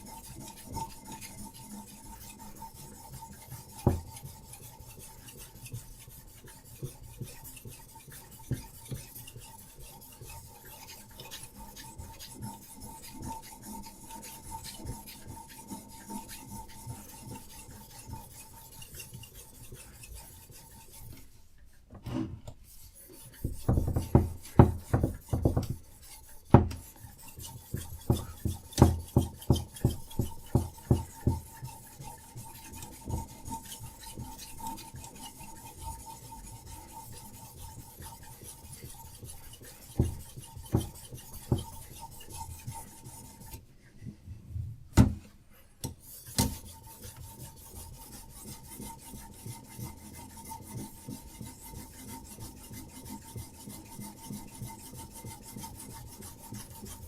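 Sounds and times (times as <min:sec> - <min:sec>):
sharpening stone rasping on knife: 0:00.0 - 0:21.2, 0:22.7 - 0:43.6, 0:46.0 - 0:57.0.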